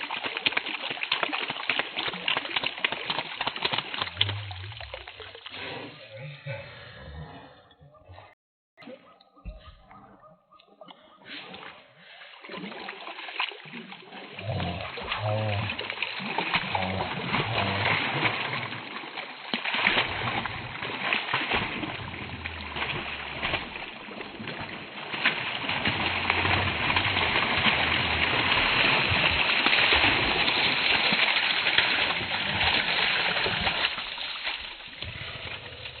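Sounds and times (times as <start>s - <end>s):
dogs splashing through water: 0.0s - 6.0s, 8.8s - 36.0s.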